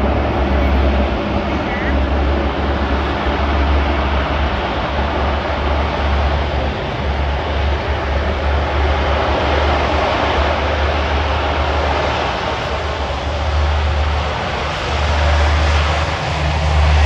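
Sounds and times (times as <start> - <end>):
turboprop aircraft engines droning: 0.0 - 17.0.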